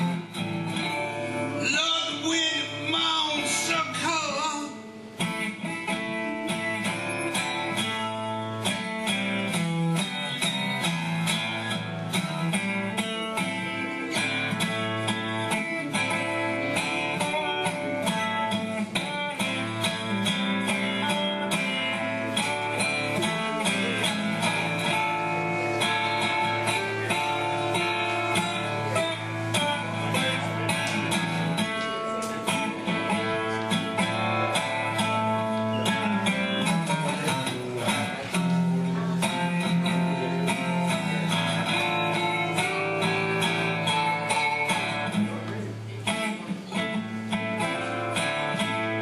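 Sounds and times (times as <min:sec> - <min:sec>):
resonator guitar playing: 0:00.0 - 0:49.0.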